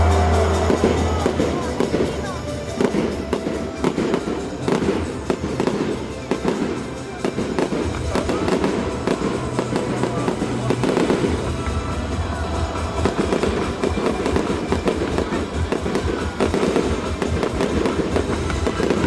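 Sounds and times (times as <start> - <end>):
fireworks crackling and popping: 0.0 - 19.0
music playing: 0.0 - 19.0.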